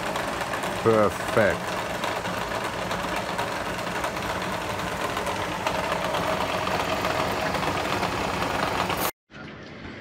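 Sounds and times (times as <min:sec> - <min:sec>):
milling machine cutting metal: 0:00.0 - 0:09.1.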